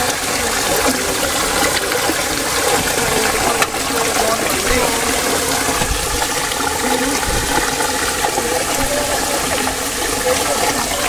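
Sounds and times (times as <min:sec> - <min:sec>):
fish rinsed in steel bowl: 0:00.0 - 0:11.0
water rushing over rocks: 0:00.0 - 0:11.0.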